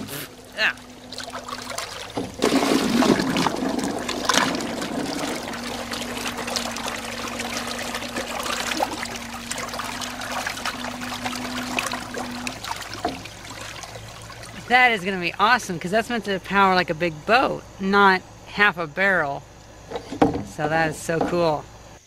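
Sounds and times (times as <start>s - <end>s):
low motor hum: 0.0s - 22.0s
propeller churning water: 0.0s - 22.0s.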